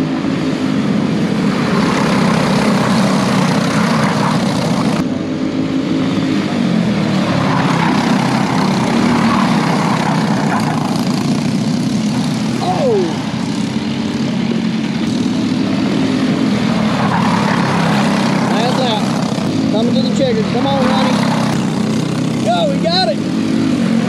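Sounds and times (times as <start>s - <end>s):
go-kart engines racing past: 0.0s - 24.0s.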